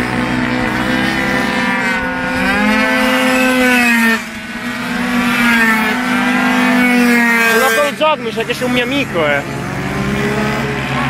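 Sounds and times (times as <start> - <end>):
scooter engines revving: 0.0 - 11.0.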